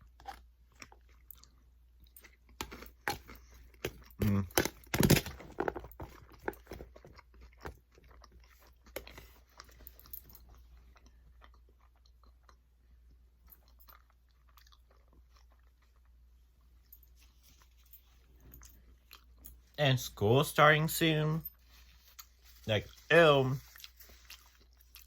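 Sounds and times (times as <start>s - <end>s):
chewing food: 0.0s - 19.8s, 21.6s - 25.0s.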